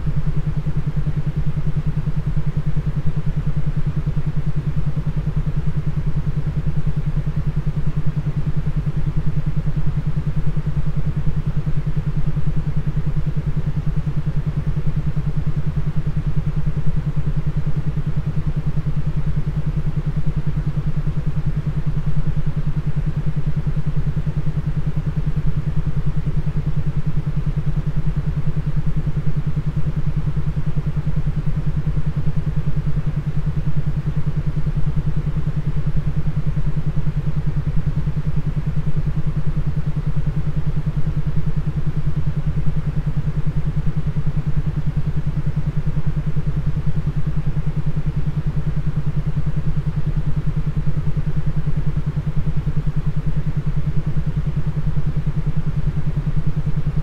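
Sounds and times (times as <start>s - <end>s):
low droning tone with pulsing flutter: 0.0s - 57.0s.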